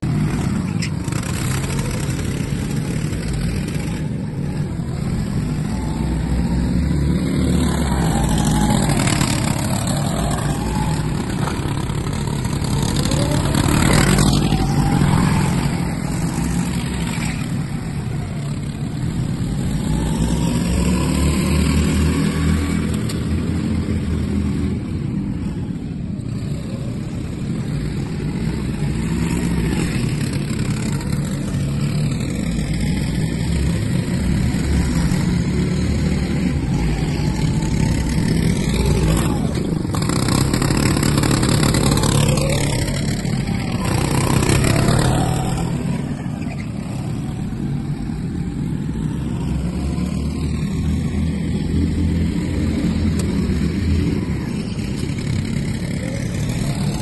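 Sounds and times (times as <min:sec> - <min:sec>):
go-kart motors passing: 0:00.0 - 0:57.0.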